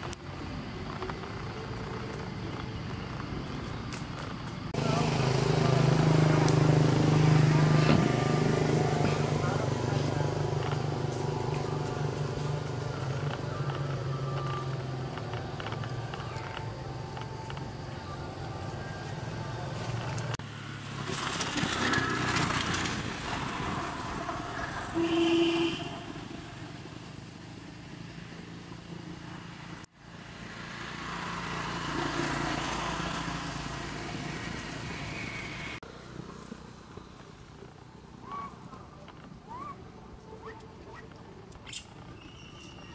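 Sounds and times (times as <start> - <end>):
passing motor traffic: 0.0 - 42.9.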